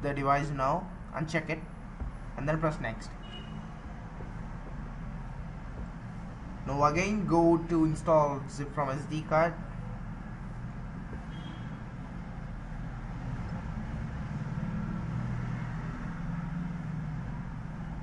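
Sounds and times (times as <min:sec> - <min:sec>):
low background rumble: 0:00.0 - 0:14.6.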